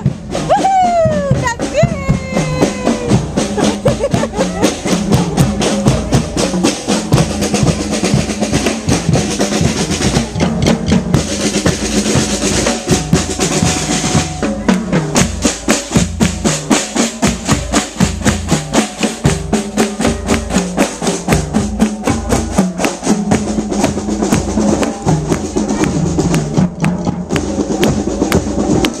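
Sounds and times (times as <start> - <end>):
snare and bass drum beat: 0.0 - 29.0
wind instruments of marching band: 0.0 - 29.0.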